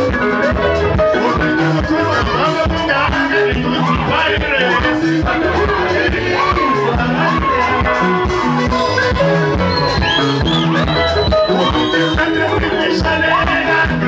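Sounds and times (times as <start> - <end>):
bass: 0.0 - 14.0
drums dance beat: 0.0 - 14.0
electric guitar: 0.0 - 14.0.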